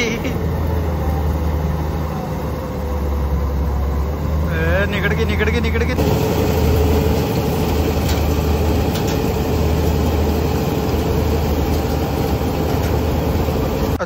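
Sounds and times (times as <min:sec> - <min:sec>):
combine harvester engine hum: 0:00.0 - 0:14.0.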